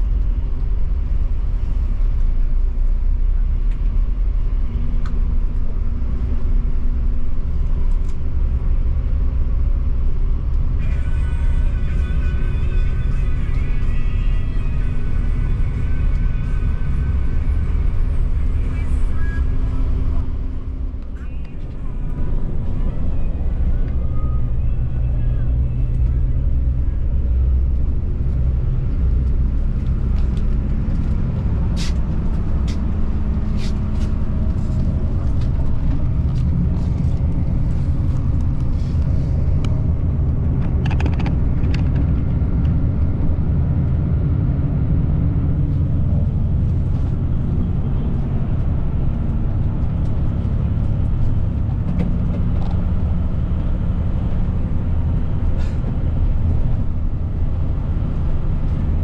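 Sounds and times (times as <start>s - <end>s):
bus engine and tyres rumbling: 0.0s - 59.0s.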